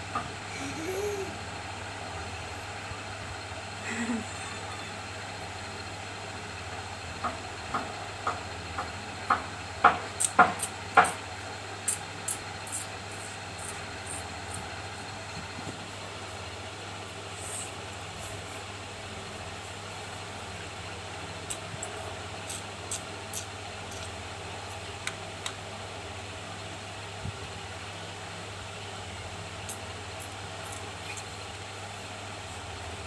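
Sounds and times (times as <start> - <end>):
low hum and hiss: 0.0 - 33.0.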